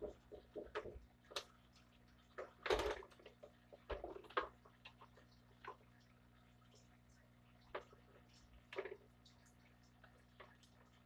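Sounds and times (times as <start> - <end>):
faint clicks and knocks: 0.0 - 11.0.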